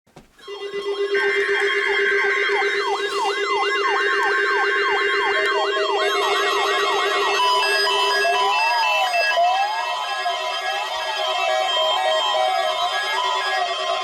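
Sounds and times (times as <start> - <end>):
electronic siren wailing: 0.4 - 14.0
screechy digital data tones: 0.4 - 14.0.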